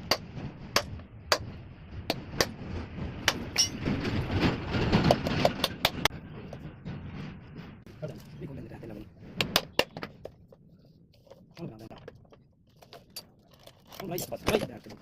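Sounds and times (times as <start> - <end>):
low rumbling noise: 0.0 - 12.7.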